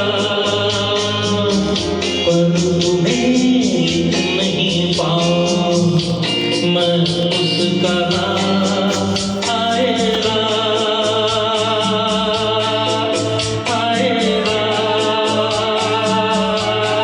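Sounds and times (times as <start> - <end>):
keyboard accompaniment: 0.1 - 17.0.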